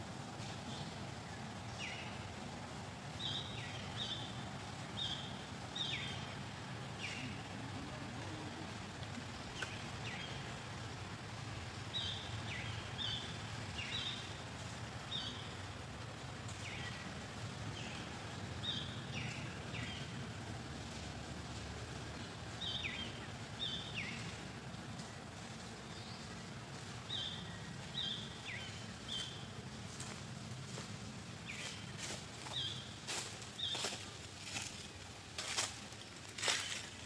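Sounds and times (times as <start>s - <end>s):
low background rumble: 0.0s - 37.0s.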